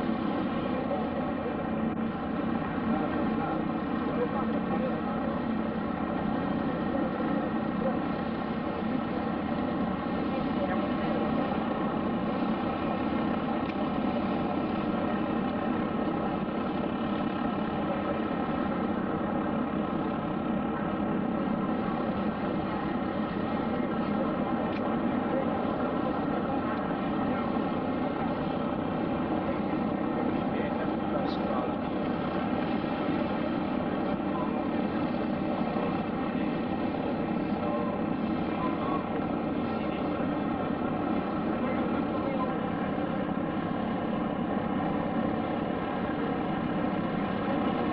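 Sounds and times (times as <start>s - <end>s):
aircraft engine droning: 0.0s - 47.9s.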